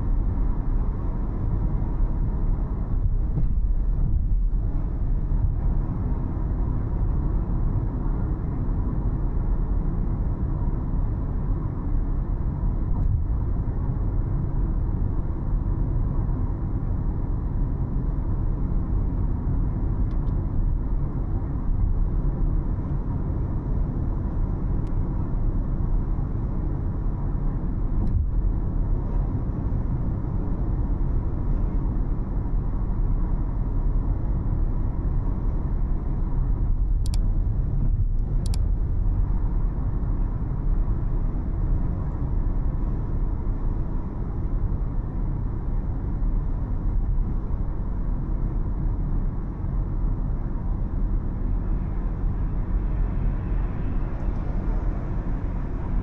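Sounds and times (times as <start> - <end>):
car engine and tyre road noise: 0.0 - 56.0.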